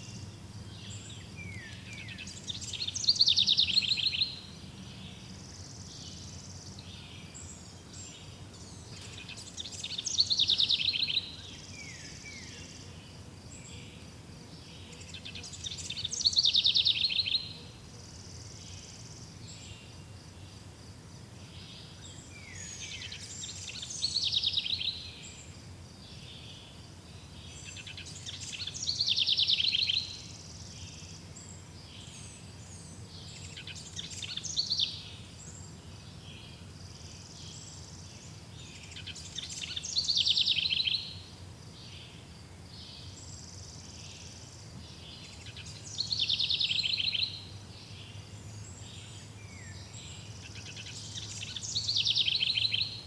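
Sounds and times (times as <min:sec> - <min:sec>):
chirps of other birds: 0:00.0 - 0:20.7, 0:21.4 - 0:53.0
faint hiss: 0:00.0 - 0:53.0.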